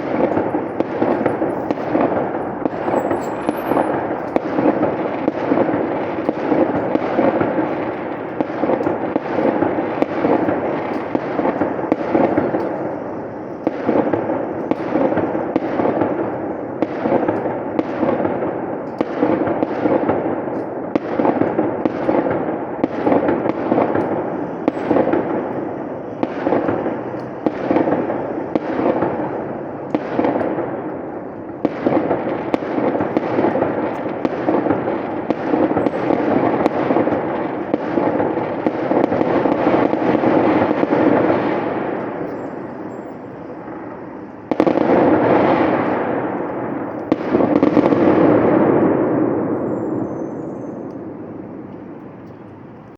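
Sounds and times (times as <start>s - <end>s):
fireworks bangs: 0.0s - 52.9s
fireworks crackling: 0.0s - 52.9s.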